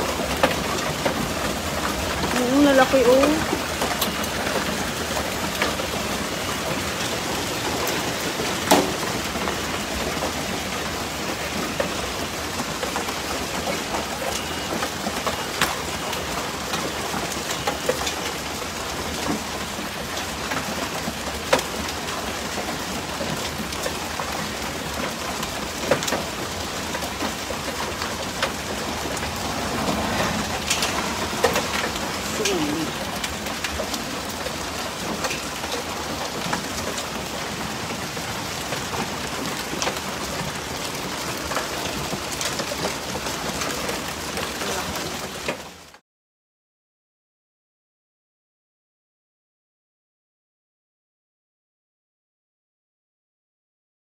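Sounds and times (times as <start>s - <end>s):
hailstones clicking on hard surfaces: 0.0s - 45.9s
hail falling: 0.0s - 46.0s.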